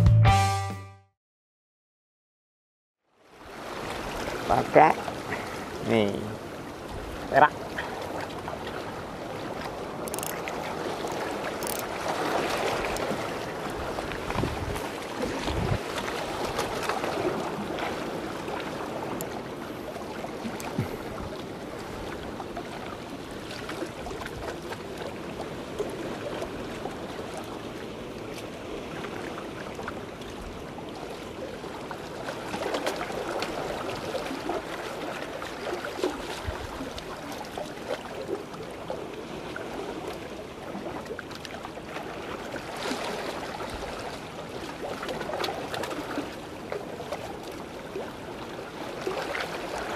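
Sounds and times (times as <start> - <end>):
seawater lapping against concrete: 3.2 - 49.9.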